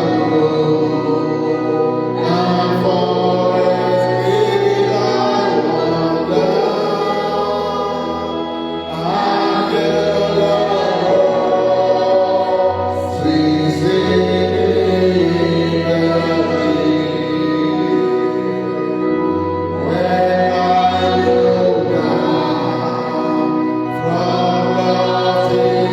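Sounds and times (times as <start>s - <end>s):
choir singing gospel: 0.0s - 25.9s
instrumental backing: 0.0s - 25.9s.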